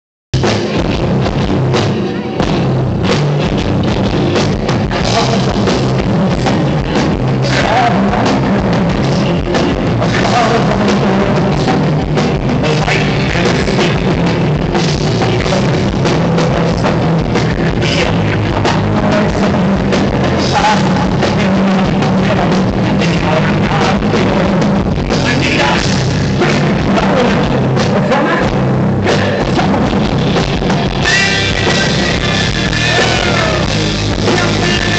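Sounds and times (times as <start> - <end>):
drum kit: 0.3 - 34.9
live rock band playing: 0.4 - 34.9.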